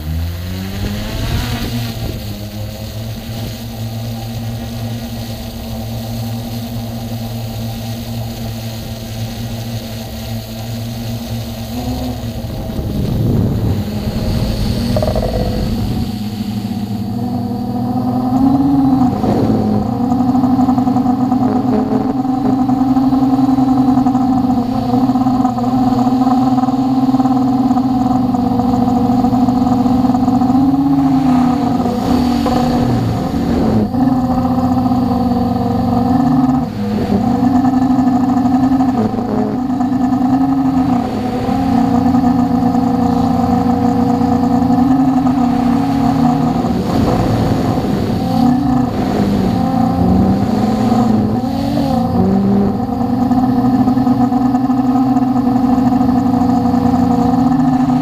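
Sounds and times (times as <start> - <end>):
drone motors whining: 0.0 - 58.0.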